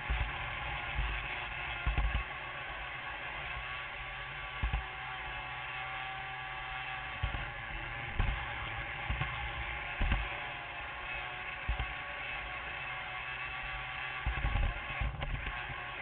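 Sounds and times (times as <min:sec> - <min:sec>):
model train motor whir: 0:00.0 - 0:16.0.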